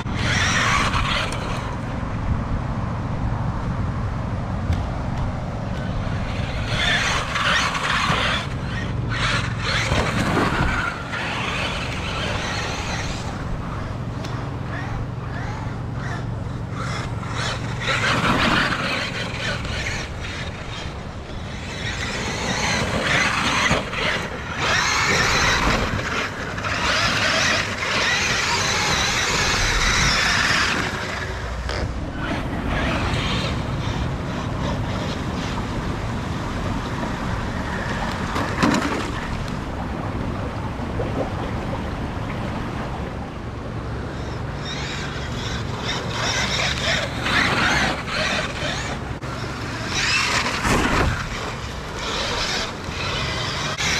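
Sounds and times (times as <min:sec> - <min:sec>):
rc truck motor rushing: 0:00.0 - 0:39.9, 0:43.7 - 0:53.9.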